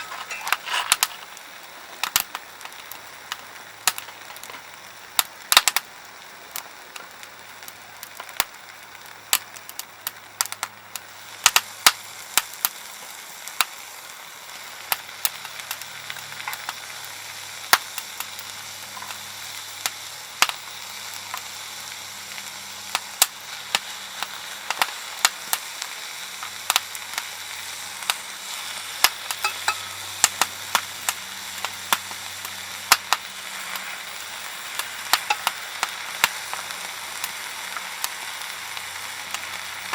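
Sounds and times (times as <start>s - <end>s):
fire hissing sizzle: 0.0s - 39.9s
firewood crackling and popping: 0.0s - 39.9s.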